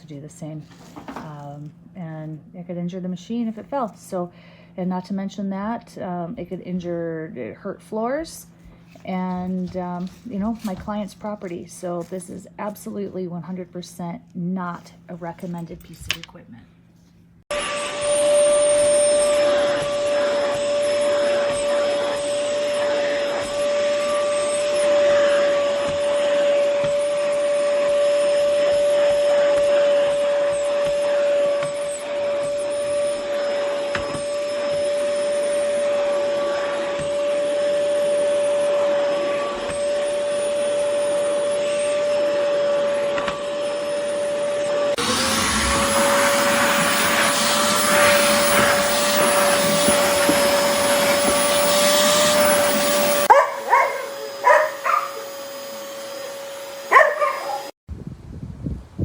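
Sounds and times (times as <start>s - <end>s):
canister vacuum whining: 0.0s - 13.7s, 17.4s - 57.8s.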